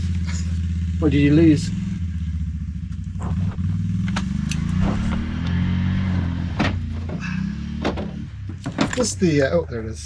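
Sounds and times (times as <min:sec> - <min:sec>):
engine running at low revs: 0:00.0 - 0:09.2.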